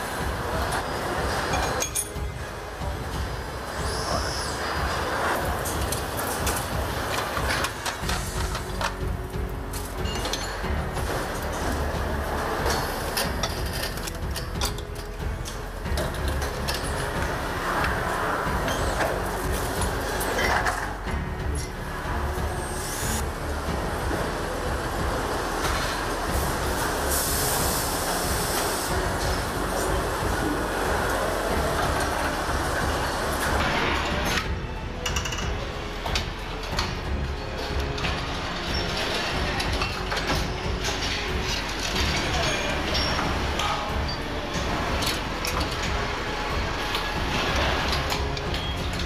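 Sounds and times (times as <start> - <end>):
machinery humming: 0.0 - 49.0.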